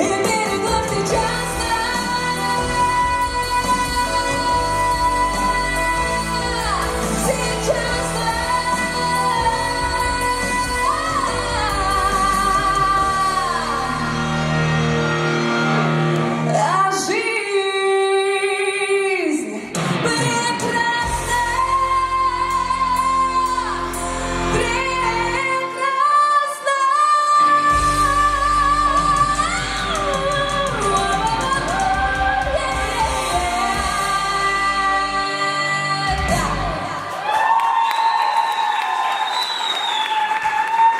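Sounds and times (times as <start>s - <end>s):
band accompaniment: 0.0s - 17.4s, 19.6s - 26.3s, 27.4s - 37.2s
pop song with lead vocal: 0.0s - 37.3s.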